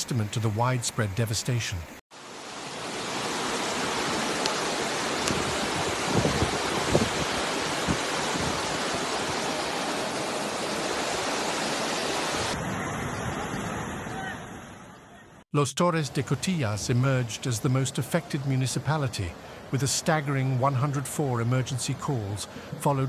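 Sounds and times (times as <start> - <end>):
floodwater rushing: 2.1 - 15.2, 15.8 - 23.0.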